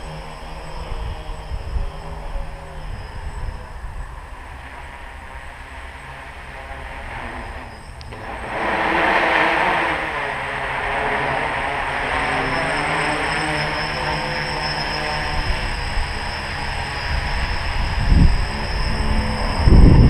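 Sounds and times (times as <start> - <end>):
drone motors and propellers buzzing: 0.0 - 20.0.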